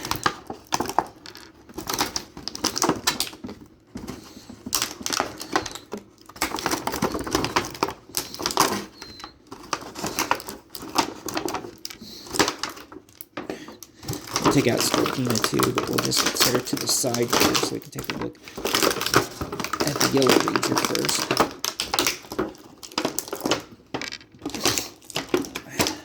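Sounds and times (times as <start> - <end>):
plastic packaging tray rustling: 0.0 - 26.0.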